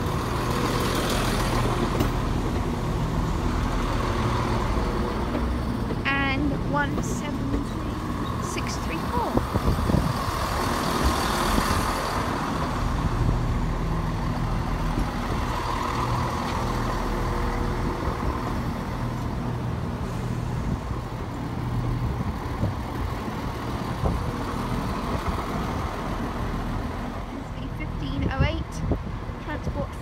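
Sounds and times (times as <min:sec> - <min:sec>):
diesel train engines running: 0:00.0 - 0:30.0.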